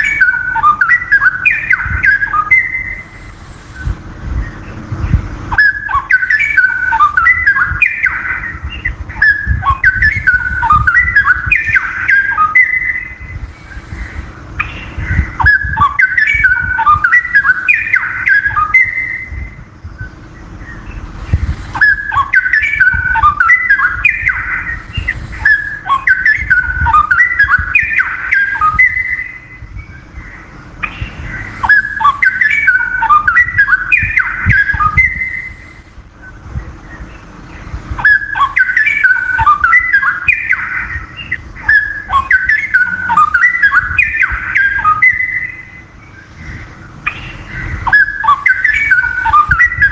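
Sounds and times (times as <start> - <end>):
bird singing warbled phrases: 0.0 - 49.9
faint steady hum: 0.0 - 49.9.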